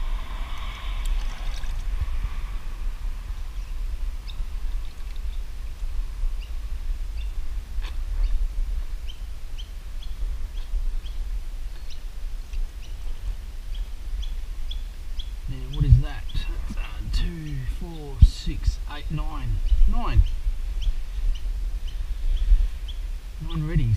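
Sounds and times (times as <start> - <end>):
small birds chirping: 0.0 - 23.9
steady low rumble: 0.0 - 23.9.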